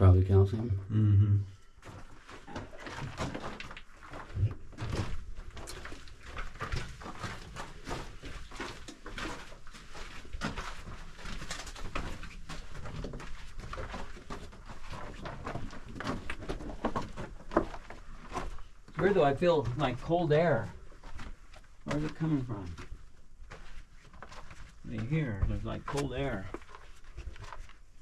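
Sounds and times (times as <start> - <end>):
footsteps on rock and gravel: 1.8 - 28.0.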